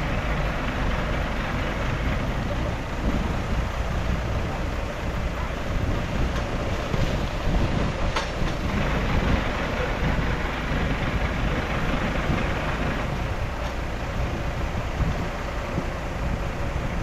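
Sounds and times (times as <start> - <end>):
bulldozer engine rumbling: 0.0 - 17.0.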